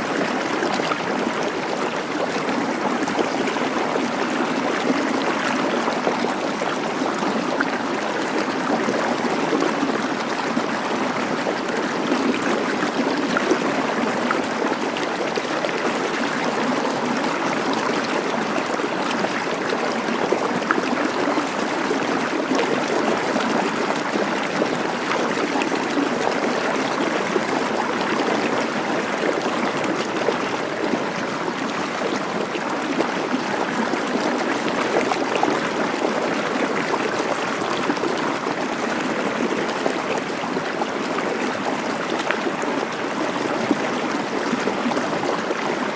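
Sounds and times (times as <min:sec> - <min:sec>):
rushing water: 0:00.0 - 0:45.9.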